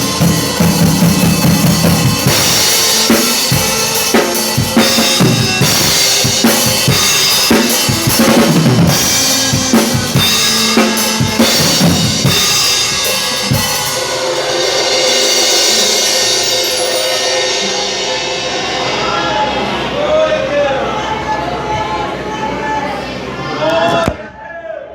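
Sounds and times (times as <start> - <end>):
drum kit playing: 0.0 - 20.0
worship song music: 0.0 - 24.4.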